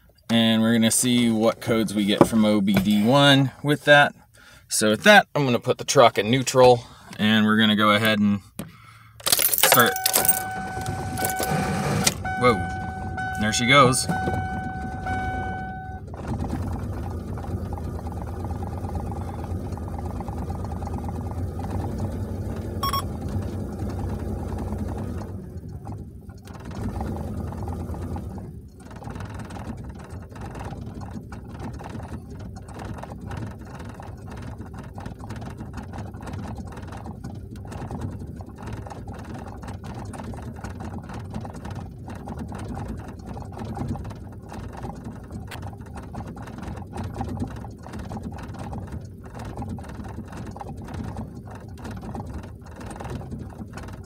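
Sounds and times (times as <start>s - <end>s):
car engine idling: 5.9s - 54.0s.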